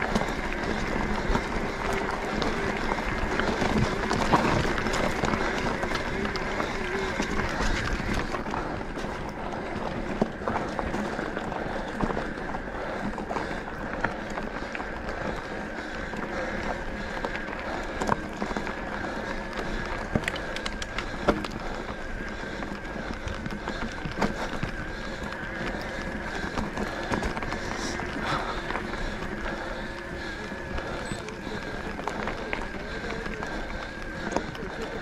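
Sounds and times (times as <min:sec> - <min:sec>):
bike rattling over bumps: 0:00.0 - 0:35.0.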